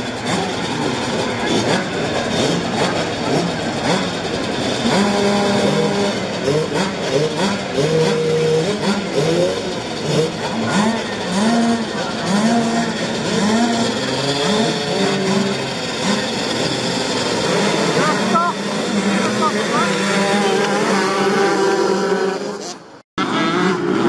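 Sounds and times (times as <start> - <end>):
two-stroke motorbikes revving: 0.0 - 24.0.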